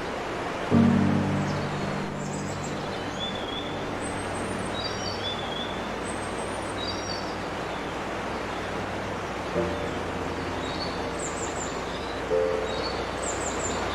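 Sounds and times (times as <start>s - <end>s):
waterfall roaring: 0.0s - 13.9s.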